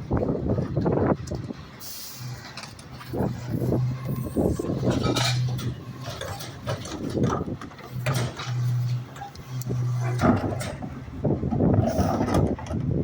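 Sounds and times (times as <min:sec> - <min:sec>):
garbage truck mechanical hum: 0:00.0 - 0:13.0
metallic clanking and rattling: 0:02.4 - 0:13.0.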